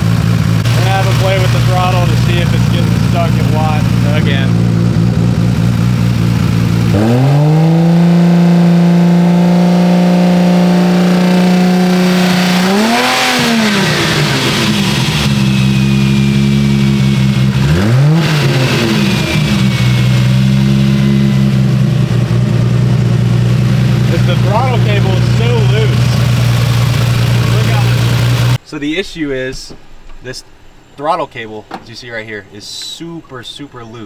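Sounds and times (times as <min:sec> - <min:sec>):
car engine revving: 0:00.0 - 0:28.6.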